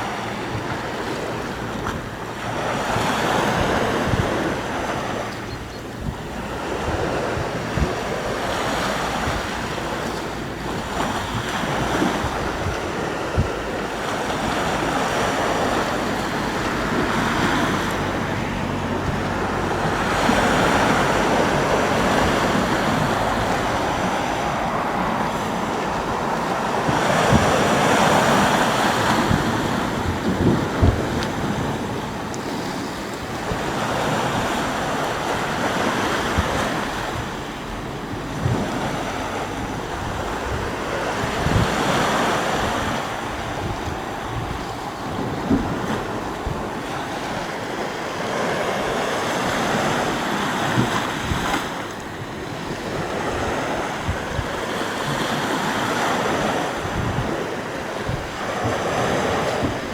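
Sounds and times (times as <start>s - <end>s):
sea waves breaking on shore: 0.0s - 59.9s
wind buffeting microphone: 0.0s - 59.9s.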